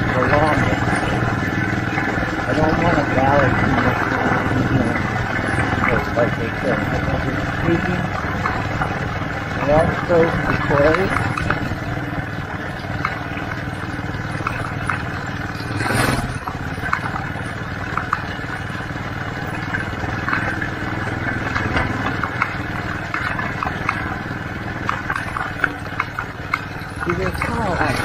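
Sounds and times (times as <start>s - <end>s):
clicks and rattles: 0.0s - 28.0s
vehicle rolling over dirt road: 0.0s - 28.0s.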